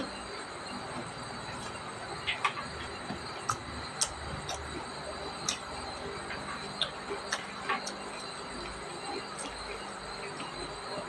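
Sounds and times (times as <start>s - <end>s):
high-pitched background whine: 0.0s - 11.0s.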